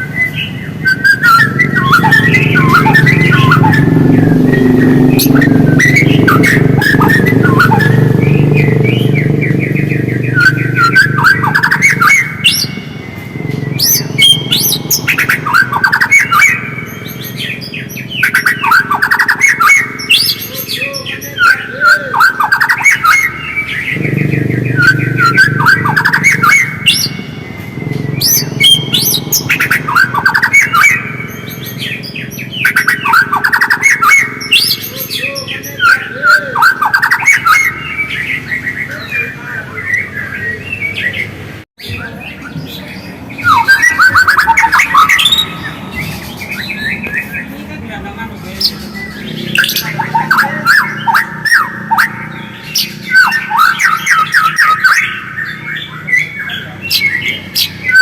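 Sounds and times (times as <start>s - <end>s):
bird chattering calls: 0.0s - 58.0s.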